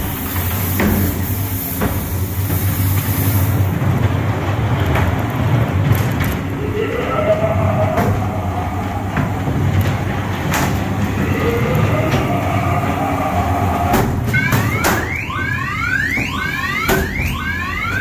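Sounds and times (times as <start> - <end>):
ride car rumbling along track: 0.0 - 16.8.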